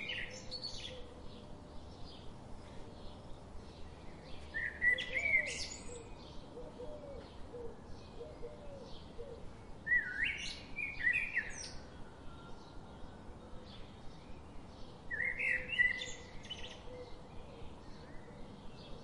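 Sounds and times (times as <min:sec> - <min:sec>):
birds singing: 0:00.0 - 0:19.0
faint background hiss: 0:00.0 - 0:19.0.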